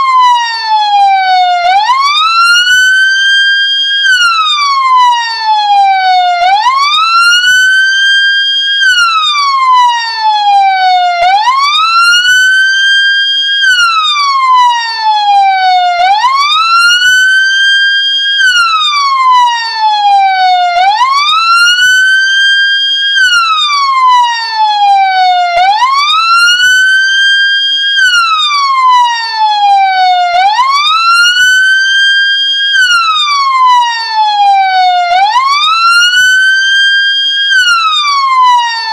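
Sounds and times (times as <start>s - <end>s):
ambulance siren wailing: 0.0s - 38.9s.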